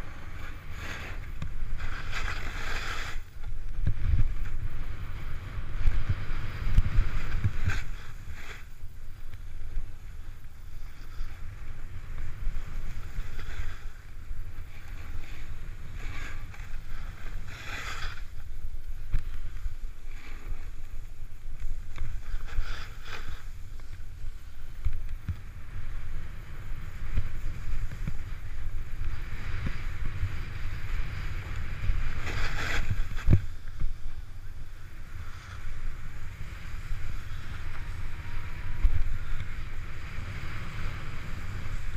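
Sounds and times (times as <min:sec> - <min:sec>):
snowboard scraping over snow: 0:00.0 - 0:41.9
wind rumble on microphone: 0:00.0 - 0:41.9.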